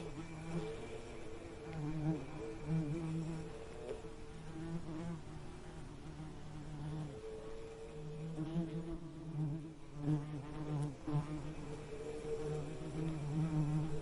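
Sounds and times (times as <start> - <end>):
bee buzzing: 0.0 - 14.0.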